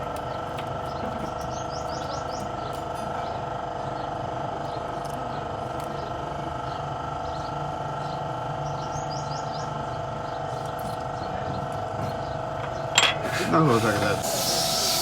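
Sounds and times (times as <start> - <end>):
small birds chirping: 0.0 - 12.9
steady machine hum: 0.0 - 15.0.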